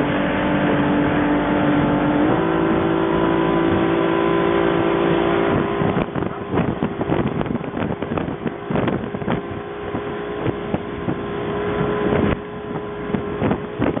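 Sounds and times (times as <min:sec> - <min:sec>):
motorboat engine running: 0:00.0 - 0:14.0
wind buffeting microphone: 0:00.0 - 0:14.0.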